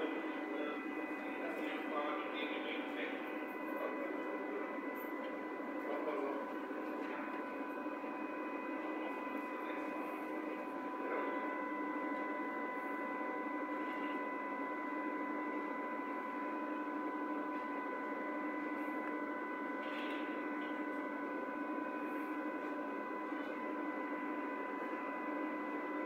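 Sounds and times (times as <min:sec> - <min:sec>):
train electrical hum and whine: 0:00.0 - 0:26.0.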